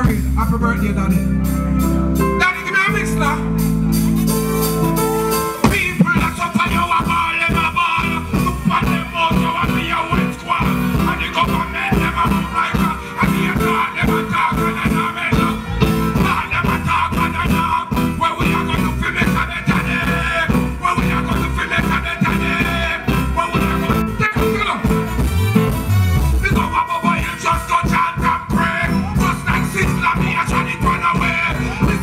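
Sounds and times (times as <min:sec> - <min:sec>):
live reggae band: 0:00.0 - 0:32.0
person singing: 0:00.0 - 0:32.0.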